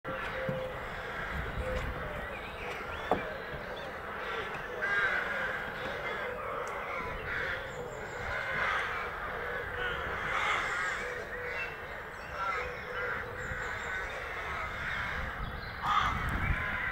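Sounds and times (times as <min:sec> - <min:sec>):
harsh bird calls: 0:00.1 - 0:16.9.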